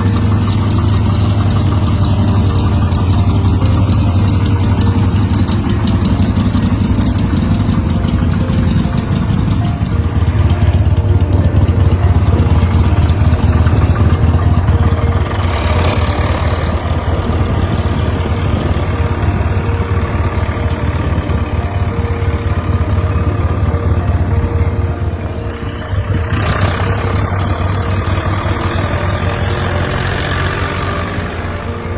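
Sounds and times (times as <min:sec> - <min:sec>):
diesel tractor engine idling: 0:00.0 - 0:31.9.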